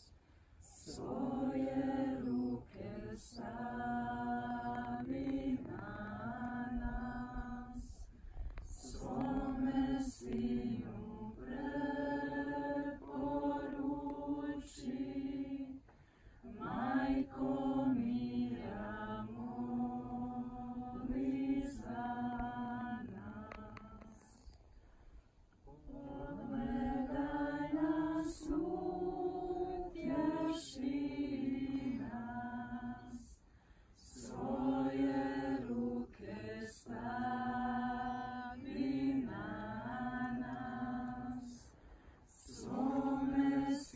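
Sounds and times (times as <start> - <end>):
group singing a cappella hymn: 0.0 - 24.6, 25.6 - 43.9.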